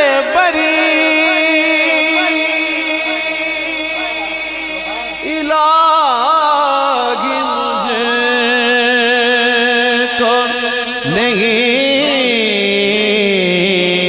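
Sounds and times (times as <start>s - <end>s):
held vocal drone: 0.0s - 14.0s
man singing with vibrato: 0.0s - 14.0s.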